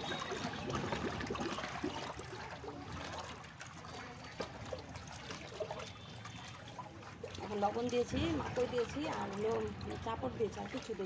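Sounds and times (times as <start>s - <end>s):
hand sloshing mash: 0.0s - 11.0s.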